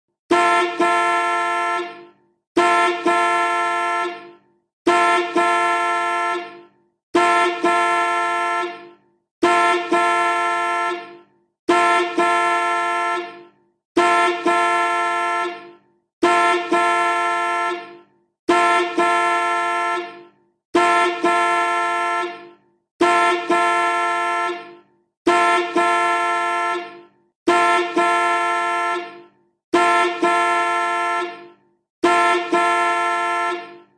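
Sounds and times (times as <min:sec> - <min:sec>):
car horn blasts: 0:00.3 - 0:33.9.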